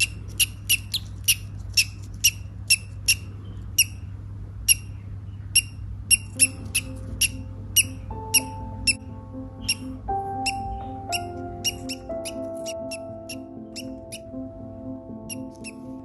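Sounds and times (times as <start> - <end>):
parrot chirping: 0.0 - 14.5, 15.2 - 16.0.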